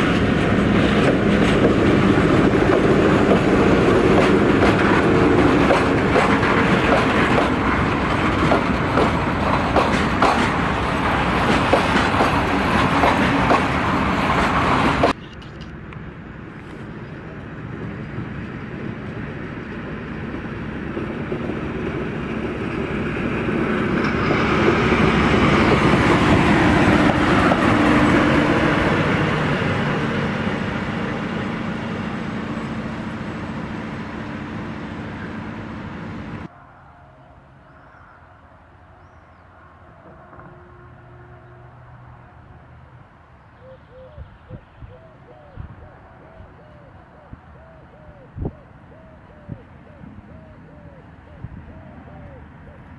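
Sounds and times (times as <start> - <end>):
faint outdoor background: 0.0 - 52.9
train passing: 0.0 - 52.9.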